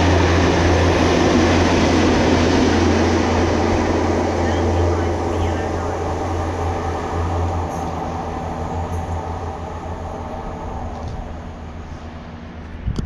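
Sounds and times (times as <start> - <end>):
rail grinding train engine hum: 0.0 - 13.0
train rolling on track: 0.0 - 13.0.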